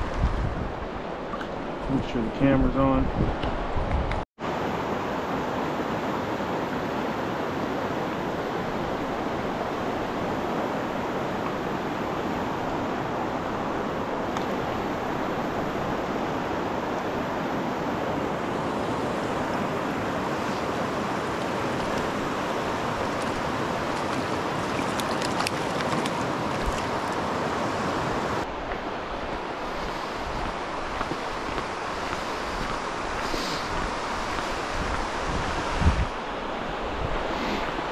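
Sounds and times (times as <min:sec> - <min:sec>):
river water rushing over rocks: 0:04.5 - 0:37.0.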